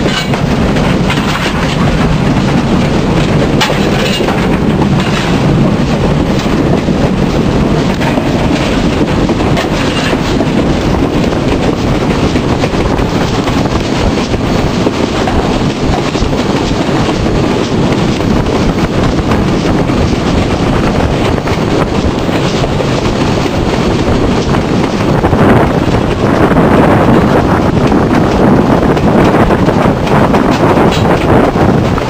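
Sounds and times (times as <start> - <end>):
steam locomotive running: 0.0 - 32.0
wind buffeting microphone: 0.0 - 32.0.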